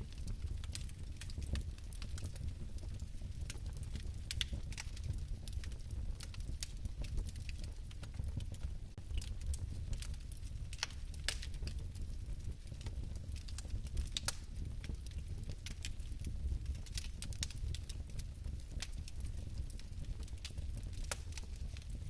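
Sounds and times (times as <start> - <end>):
fireplace flame burning: 0.0 - 22.0.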